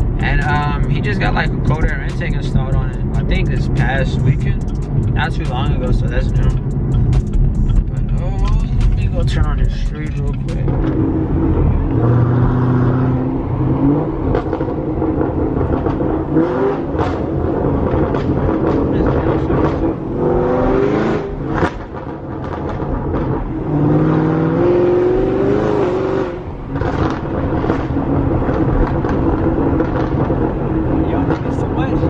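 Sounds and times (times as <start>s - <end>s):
exhaust crackles and pops: 0.0s - 20.1s, 21.3s - 23.6s, 26.5s - 32.0s
car engine accelerating: 0.0s - 32.0s.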